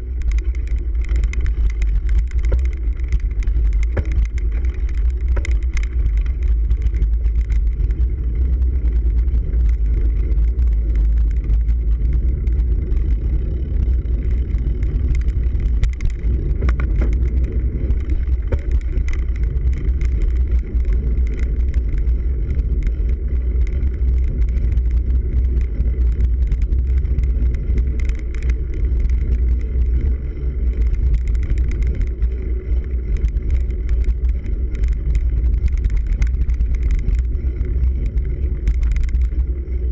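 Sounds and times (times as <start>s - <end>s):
tyre vibration: 0.0s - 39.9s
wind rumble on microphone: 0.0s - 39.9s.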